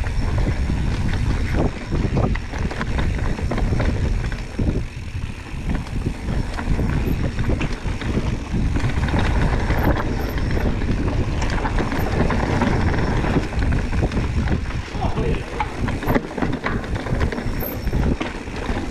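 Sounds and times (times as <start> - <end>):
bike clattering over rough ground: 0.0 - 18.9
wind rushing over microphone: 0.0 - 18.9.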